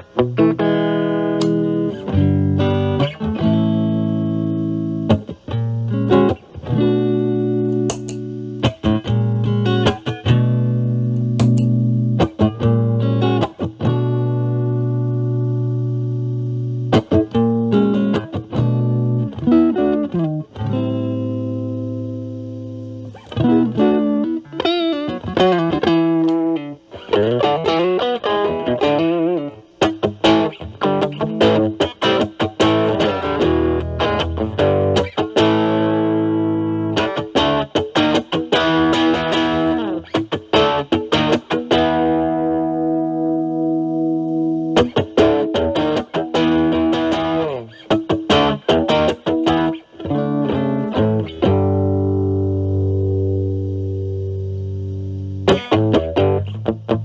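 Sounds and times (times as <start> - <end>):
distorted electric guitar licks: 0.0 - 57.0.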